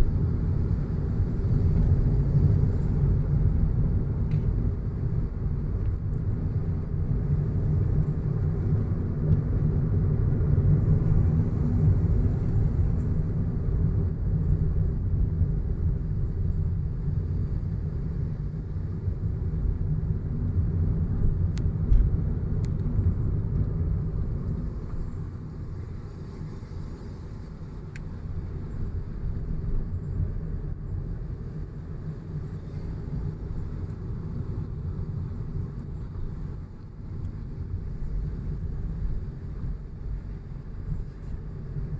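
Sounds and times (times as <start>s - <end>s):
car driving rumble: 0.0s - 41.9s.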